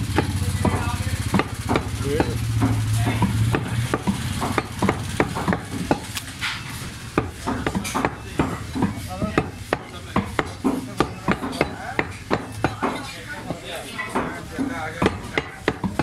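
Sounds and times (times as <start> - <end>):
cleaver chopping meat on wood: 0.0 - 16.0.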